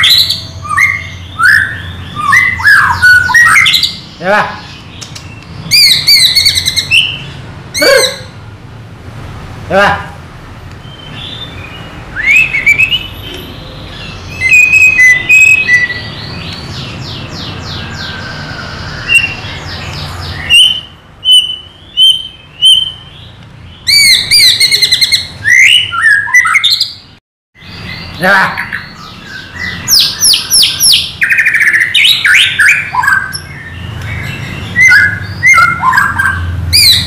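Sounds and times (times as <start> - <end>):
bird singing whistles and trills: 0.0 - 4.1, 5.0 - 8.3, 10.8 - 27.0, 27.6 - 37.0.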